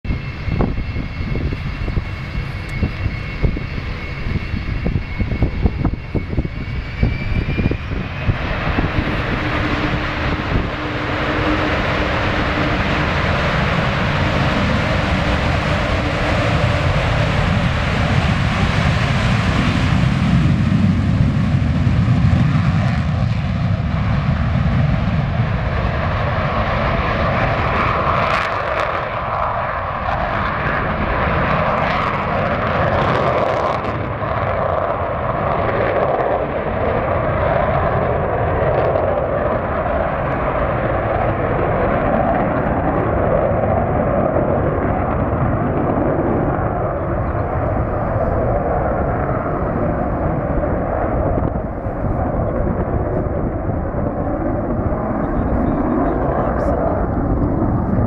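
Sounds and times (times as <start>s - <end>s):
wind buffeting microphone: 0.0s - 58.0s
jet engines whining: 0.1s - 58.0s
jet take-off roar: 0.1s - 58.0s.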